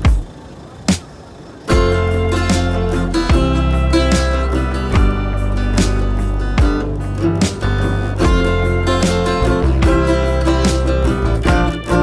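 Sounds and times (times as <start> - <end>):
strummed guitar music: 1.7 - 12.0.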